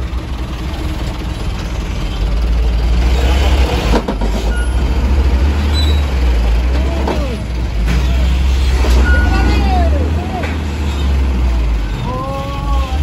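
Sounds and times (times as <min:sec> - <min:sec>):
diesel truck engine pulling: 0:00.0 - 0:13.0.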